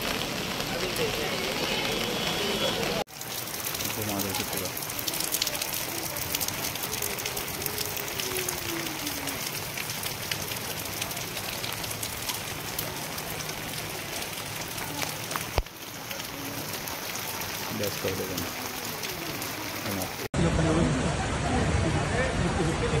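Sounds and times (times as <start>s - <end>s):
heavy rain on wet ground: 0.0s - 23.0s.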